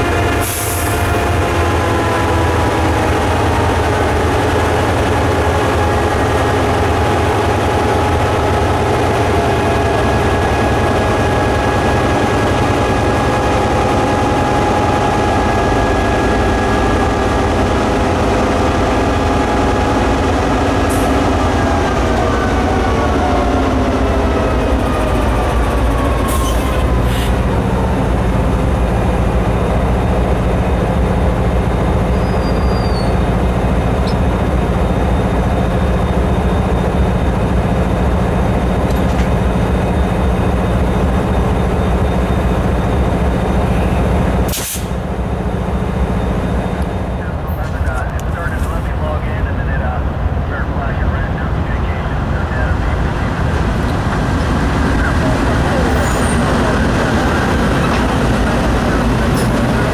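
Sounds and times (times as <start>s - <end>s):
diesel locomotives rumbling: 0.0s - 59.9s.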